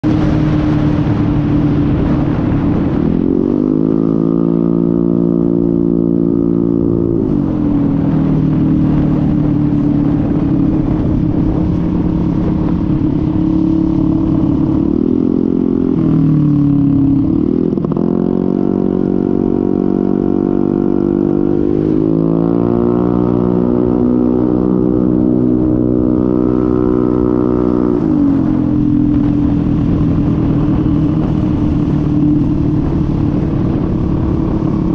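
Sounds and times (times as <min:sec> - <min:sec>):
heavy wind noise: 0:00.0 - 0:34.9
scooter engine droning: 0:00.0 - 0:34.9.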